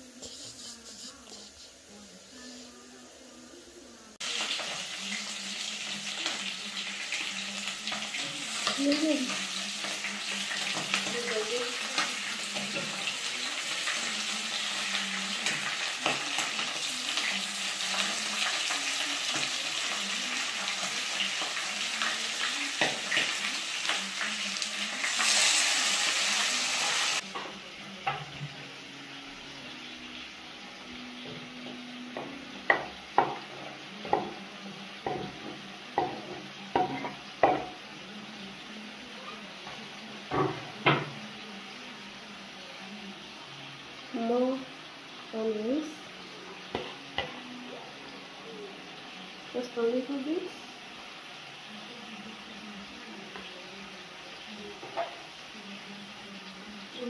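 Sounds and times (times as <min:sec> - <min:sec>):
chicken sizzling in hot oil: 0:04.0 - 0:57.0.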